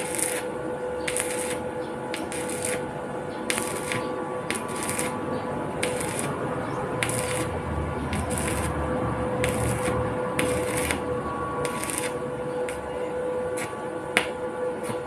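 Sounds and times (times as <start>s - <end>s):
steady hum: 0.0s - 15.0s
welding arc crackling: 0.0s - 15.0s.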